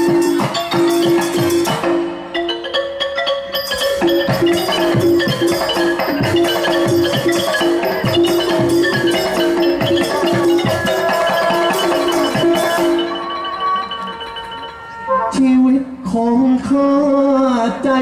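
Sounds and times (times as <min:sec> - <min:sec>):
xylophone fast runs: 0:00.0 - 0:15.0
small cymbals and drums beat: 0:00.0 - 0:15.5.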